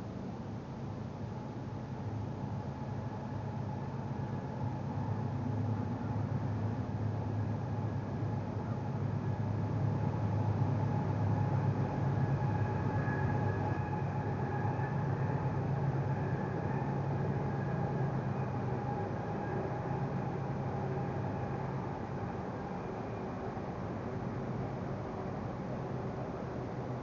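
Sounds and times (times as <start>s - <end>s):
faint steady whine: 0.0s - 27.0s
low mechanical hum: 0.0s - 27.0s.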